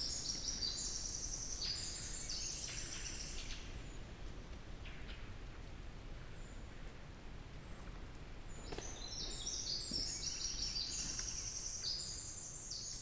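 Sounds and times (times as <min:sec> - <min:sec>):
faint forest background noise: 0:00.0 - 0:13.0.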